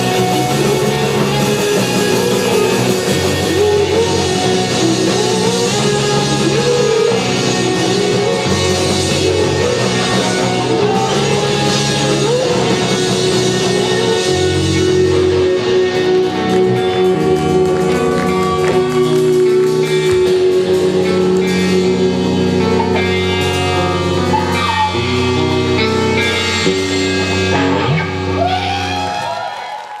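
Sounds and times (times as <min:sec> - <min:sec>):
rock band playing live: 0:00.0 - 0:29.8
electric guitar: 0:00.0 - 0:30.0.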